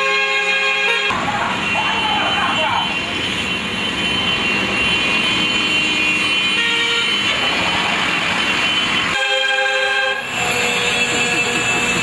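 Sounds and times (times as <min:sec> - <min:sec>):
truck horns sounding: 0:00.0 - 0:12.0
truck engines running: 0:01.1 - 0:12.0.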